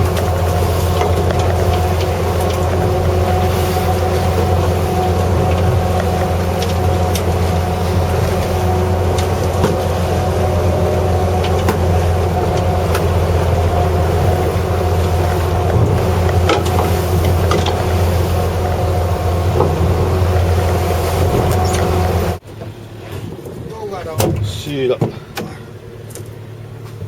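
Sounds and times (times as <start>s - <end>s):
boat engine droning: 0.0s - 27.0s
steady hum: 0.0s - 27.0s.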